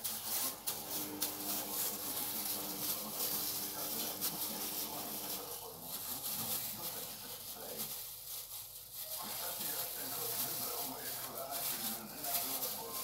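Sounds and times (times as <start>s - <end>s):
plastic gloves rustling: 0.0s - 13.0s.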